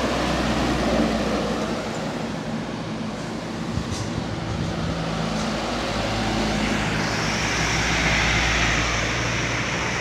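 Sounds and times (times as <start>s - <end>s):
diesel truck engines running: 0.0s - 10.0s
truck passing by: 0.0s - 10.0s.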